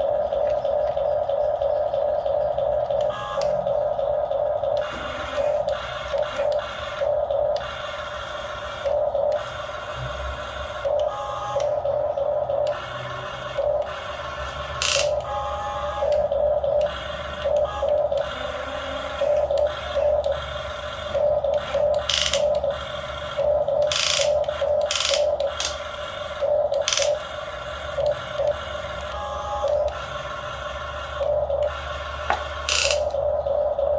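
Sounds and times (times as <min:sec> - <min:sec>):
electric hydraulic pump whining: 0:00.0 - 0:33.9.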